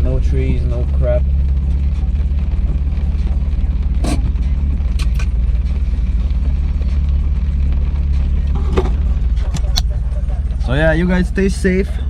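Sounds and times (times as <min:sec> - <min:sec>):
car engine hum from inside: 0:00.0 - 0:12.0.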